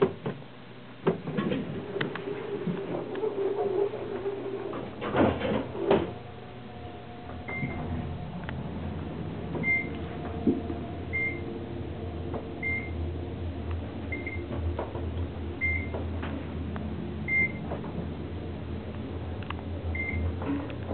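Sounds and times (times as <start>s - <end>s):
elevator hum: 0.0s - 20.9s.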